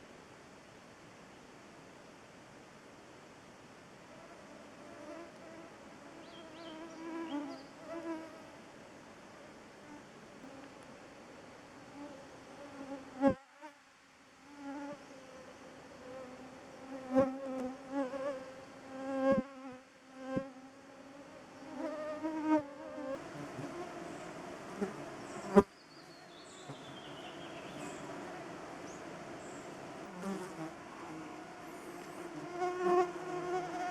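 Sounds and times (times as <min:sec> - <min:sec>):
mosquitoes buzzing: 0:04.2 - 0:08.6, 0:09.8 - 0:13.8, 0:14.5 - 0:33.9.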